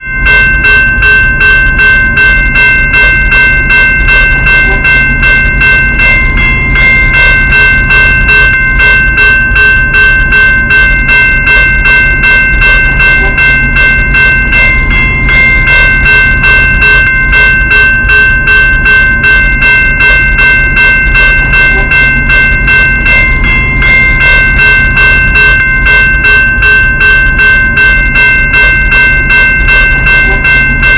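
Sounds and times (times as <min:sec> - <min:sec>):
railroad crossing bell ringing: 0:00.0 - 0:30.9.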